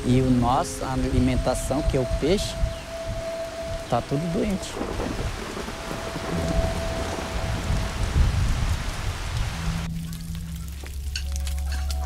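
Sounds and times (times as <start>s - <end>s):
heavy rain falling: 0.0s - 12.0s
low steady drone: 0.0s - 12.0s.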